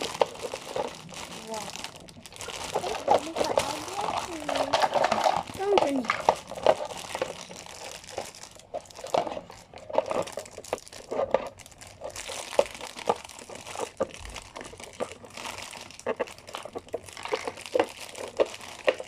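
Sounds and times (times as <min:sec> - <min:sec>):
plastic packaging crinkling: 0:00.0 - 0:19.0
plastic toy pieces clicking: 0:00.0 - 0:19.0.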